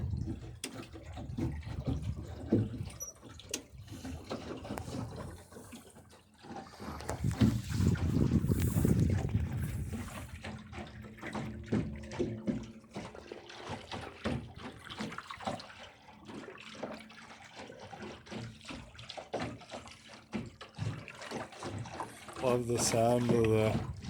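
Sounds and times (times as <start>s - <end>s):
water lapping around boat bow: 0.0s - 24.0s.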